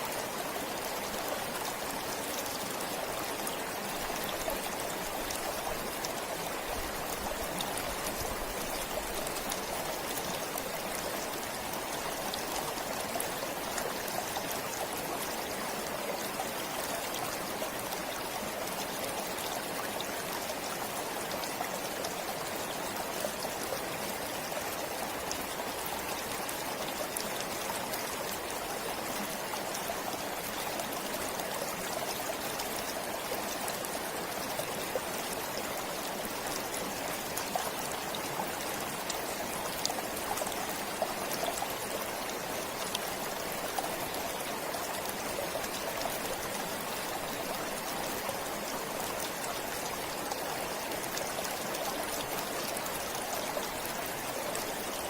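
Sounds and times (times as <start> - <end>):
small water splashes and trickles: 0.0 - 55.0
stream water rushing: 0.0 - 55.0.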